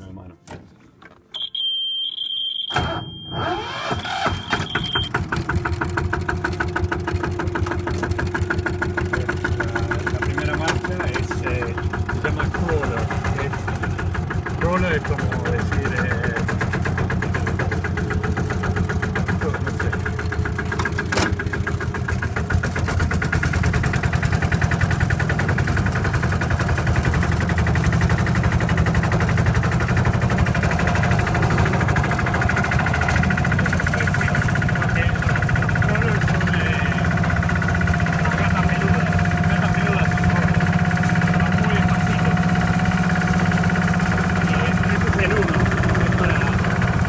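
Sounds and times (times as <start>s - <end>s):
diesel engine running: 2.6s - 47.0s.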